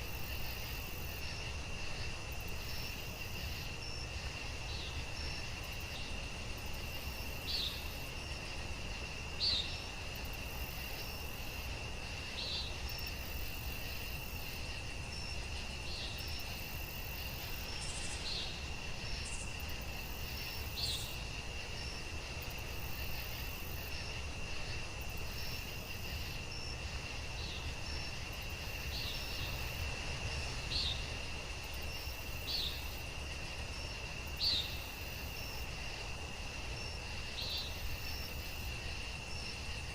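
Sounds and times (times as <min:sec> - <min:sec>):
cricket trill: 0:00.0 - 0:39.9.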